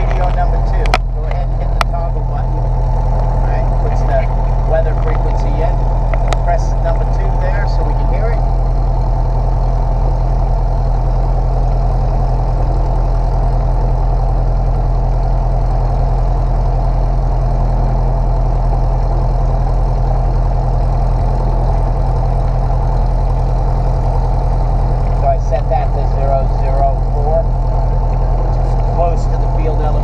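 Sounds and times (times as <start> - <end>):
light airplane engine idling: 0.0 - 30.0.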